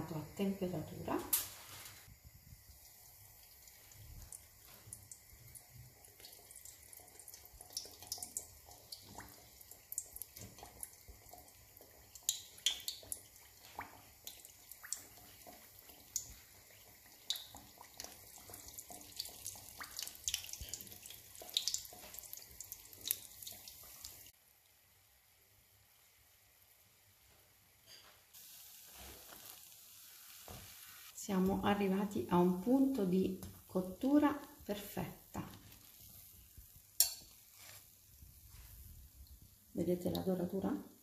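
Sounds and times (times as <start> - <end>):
deep-frying sizzle with pops: 0.0 - 41.0.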